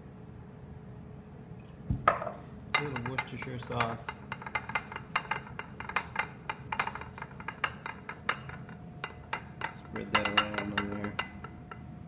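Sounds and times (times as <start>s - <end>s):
tableware clinking on a plate: 2.1s - 11.8s.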